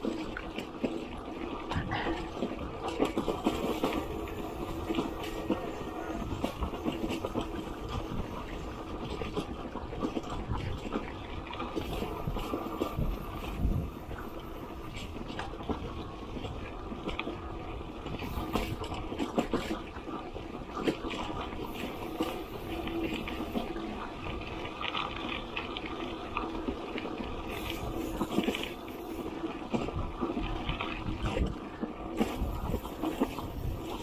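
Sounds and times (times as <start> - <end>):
bicycle rolling on dirt road: 0.0 - 34.0.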